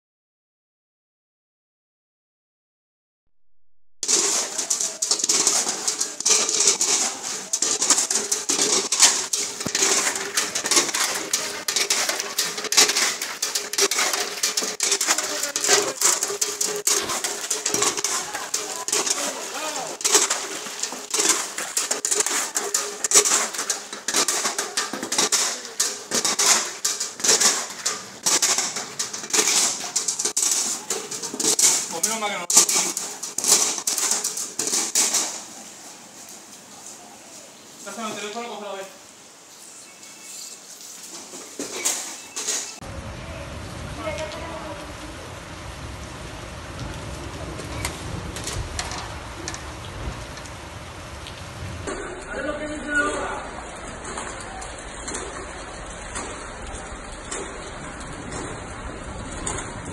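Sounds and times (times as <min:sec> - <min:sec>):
heavy rain splashing on ground: 0:04.0 - 0:59.9.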